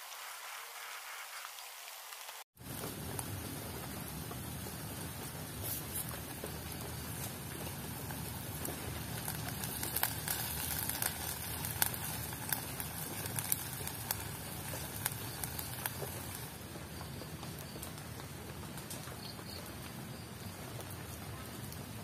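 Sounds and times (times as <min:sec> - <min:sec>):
coconut sizzling in a pan: 0:00.0 - 0:22.0.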